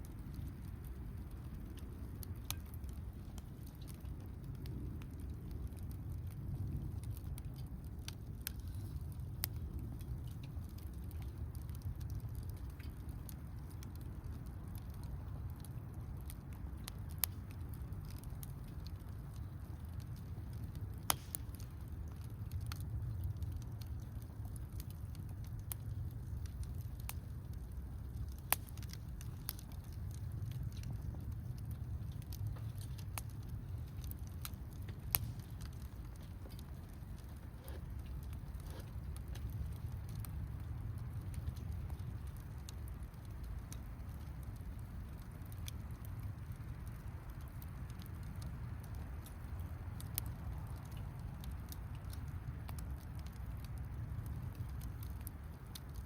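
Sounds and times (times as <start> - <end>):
campfire crackling: 0.0 - 56.0
fire popping and snapping: 0.0 - 56.0.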